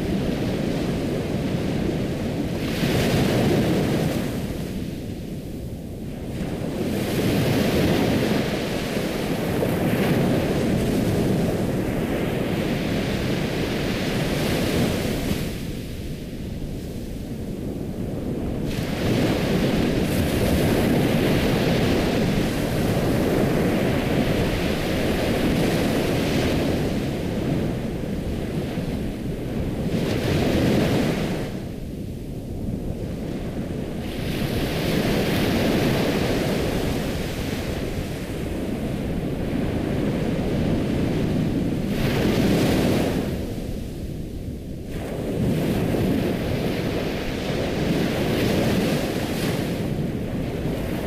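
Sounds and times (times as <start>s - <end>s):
ocean waves rushing and washing: 0.0s - 51.0s.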